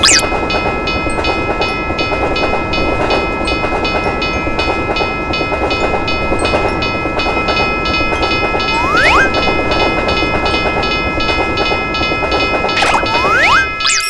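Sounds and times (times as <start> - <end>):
train rumbling over rails: 0.0 - 12.8
level-crossing warning bell ringing: 0.0 - 14.0.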